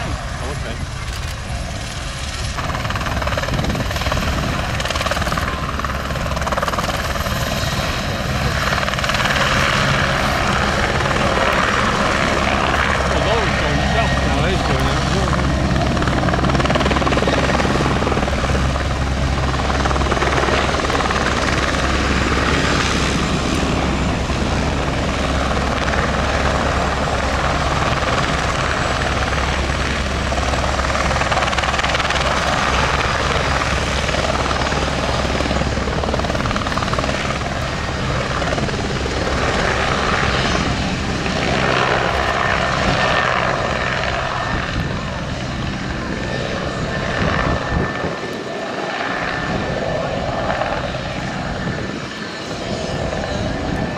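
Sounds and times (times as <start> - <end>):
helicopter hovering: 0.0 - 53.9.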